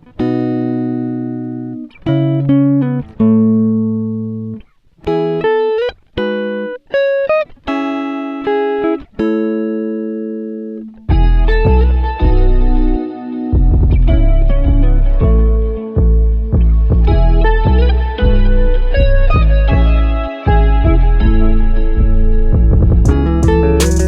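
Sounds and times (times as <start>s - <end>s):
solo guitar chords ringing: 0.0s - 24.0s.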